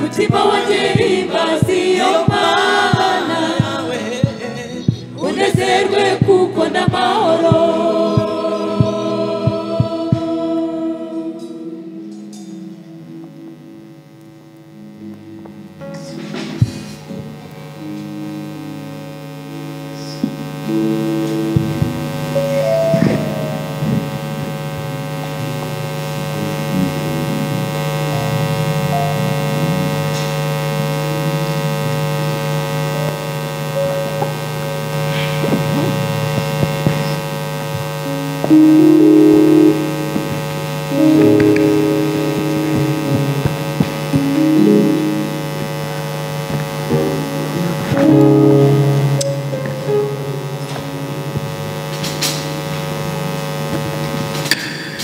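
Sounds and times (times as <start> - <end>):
electrical mains hum: 0.0 - 55.0
held musical notes: 0.0 - 55.0.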